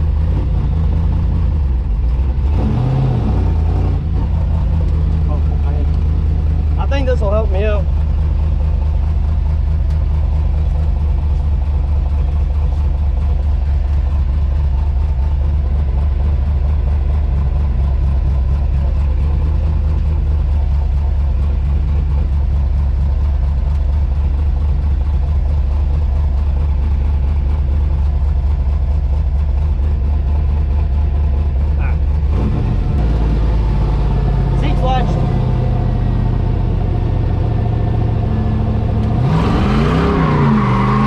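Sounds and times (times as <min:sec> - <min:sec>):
truck engine idling: 0:03.6 - 0:39.4.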